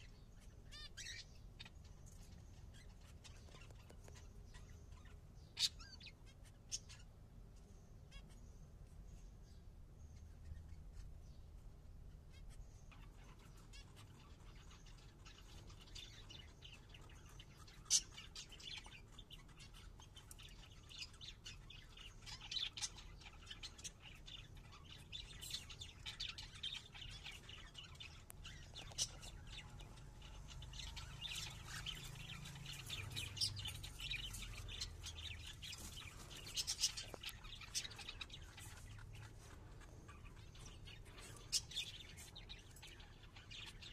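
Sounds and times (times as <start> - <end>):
cockatiels chirping: 0.0 - 7.1, 12.3 - 43.9.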